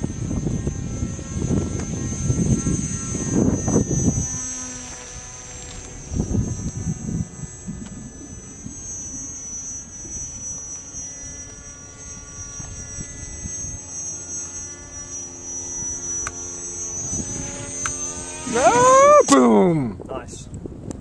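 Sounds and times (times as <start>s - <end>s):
model plane motor droning: 0.0s - 21.0s.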